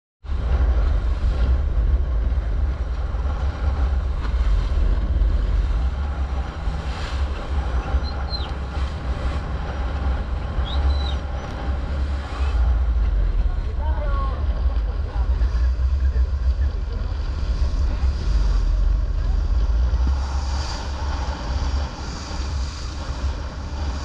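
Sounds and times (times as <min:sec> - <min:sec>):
boat engine drone: 0:00.2 - 0:24.0
rush of churning wake: 0:00.2 - 0:24.0
wind buffeting microphone: 0:00.2 - 0:24.0.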